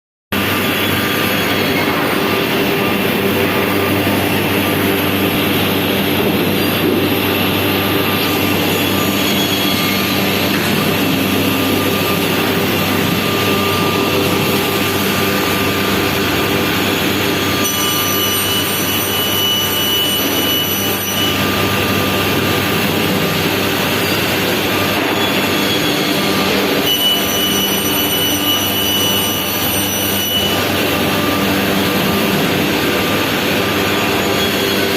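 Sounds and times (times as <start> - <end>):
wood router machine running: 0.4 - 34.9.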